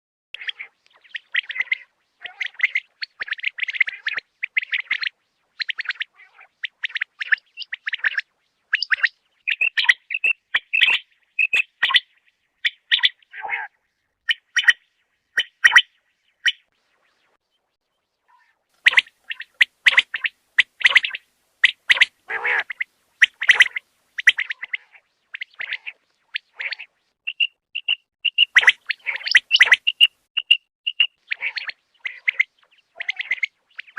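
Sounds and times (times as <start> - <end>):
quail calling: 0.4 - 13.7, 15.4 - 16.7, 18.3 - 33.9.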